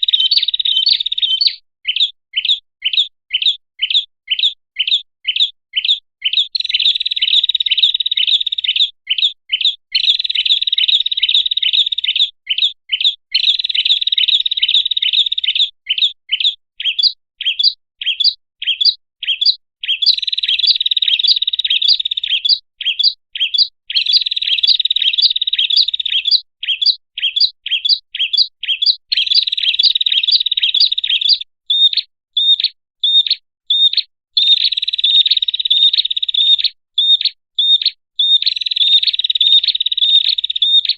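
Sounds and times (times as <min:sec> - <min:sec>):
songbird chattering: 0:00.0 - 0:40.9
songbird sharp high chirps: 0:00.0 - 0:40.9.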